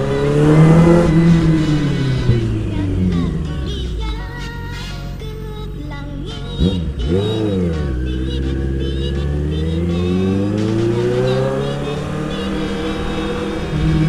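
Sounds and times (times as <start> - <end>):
motorcycle engine revving and accelerating: 0.0 - 4.2, 6.4 - 14.0.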